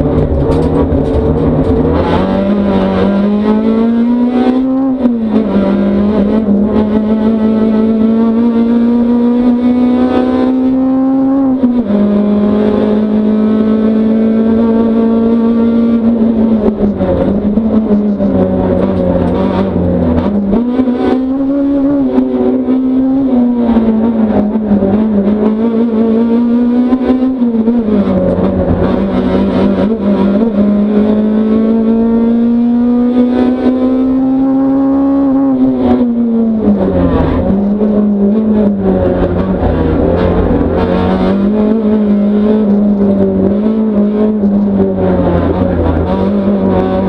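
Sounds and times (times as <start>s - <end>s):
racing car engine revving: 0.0s - 47.0s.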